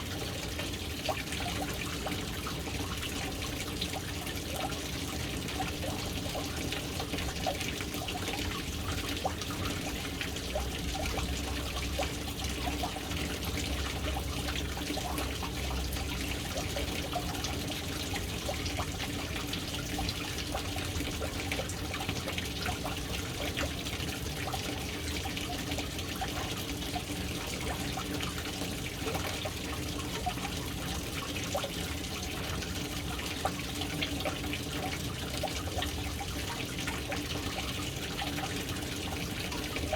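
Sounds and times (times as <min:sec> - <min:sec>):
water trickling into a tank: 0:00.0 - 0:39.9.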